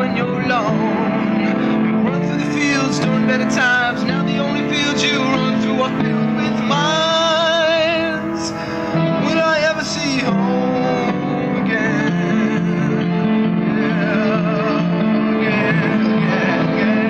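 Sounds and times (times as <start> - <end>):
guitar: 0.0 - 17.0
person singing with vibrato: 0.0 - 17.0
sustained chords: 0.0 - 17.0.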